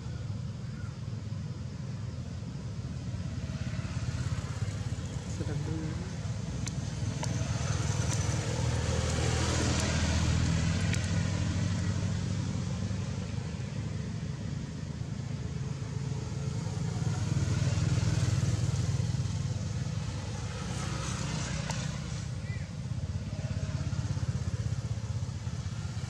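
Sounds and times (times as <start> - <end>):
motor traffic rumble: 0.0 - 26.0
vehicles passing: 0.0 - 26.0.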